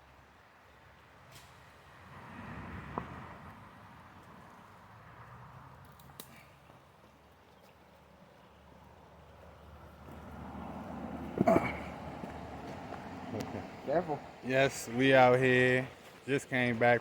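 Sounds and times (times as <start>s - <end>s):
vehicle passing with low rumble: 1.4s - 17.0s.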